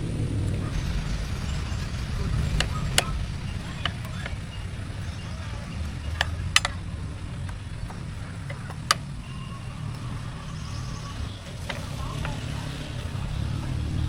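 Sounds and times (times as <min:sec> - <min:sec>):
engine rumbling: 0:00.0 - 0:14.0
sharp clicks: 0:00.3 - 0:14.0.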